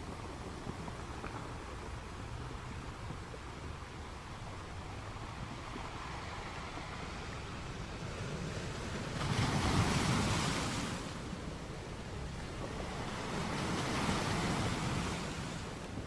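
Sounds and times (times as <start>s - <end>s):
waves washing onto shore: 0.0s - 16.0s.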